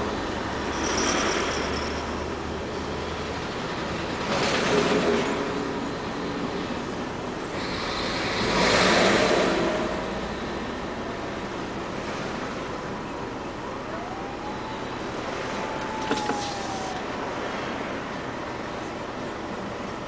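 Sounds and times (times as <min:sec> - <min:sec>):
heavy truck passing: 0:00.0 - 0:20.0
traffic hum: 0:00.0 - 0:20.0.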